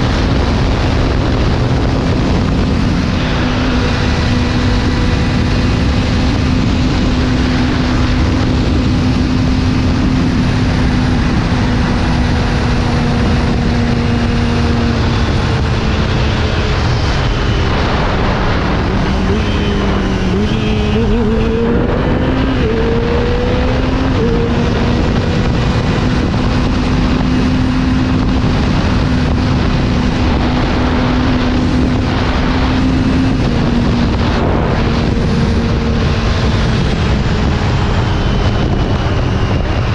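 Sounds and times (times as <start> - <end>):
motorcycle engine at high revs: 0.0 - 39.9
wind noise on microphone: 0.0 - 39.9.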